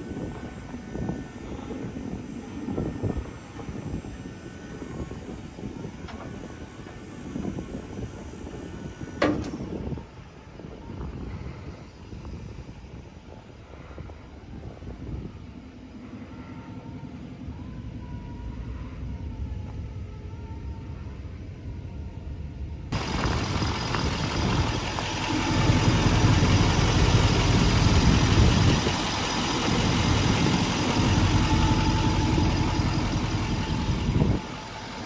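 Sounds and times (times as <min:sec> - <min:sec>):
low vehicle engine rumble: 0:00.0 - 0:35.0.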